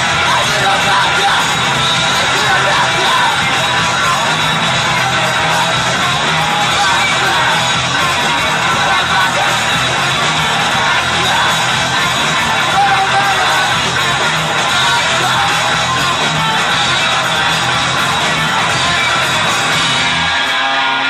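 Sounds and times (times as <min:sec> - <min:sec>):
vocalist shouting: 0:00.0 - 0:19.5
drums: 0:00.0 - 0:21.0
electric guitars: 0:00.0 - 0:21.0.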